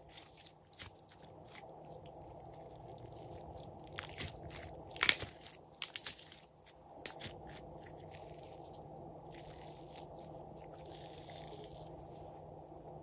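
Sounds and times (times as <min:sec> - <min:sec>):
slime crackling and squishing: 0:00.0 - 0:12.3.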